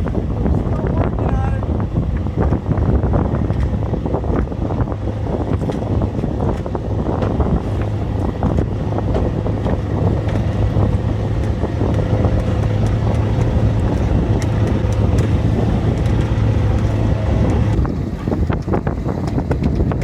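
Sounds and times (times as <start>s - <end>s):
boat engine humming: 0.0s - 20.0s
wind buffeting microphone: 0.0s - 20.0s.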